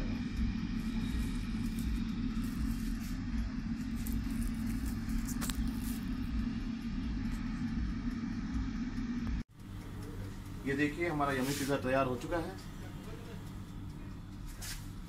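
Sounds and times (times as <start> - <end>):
air fryer fan humming: 0.0 - 15.0.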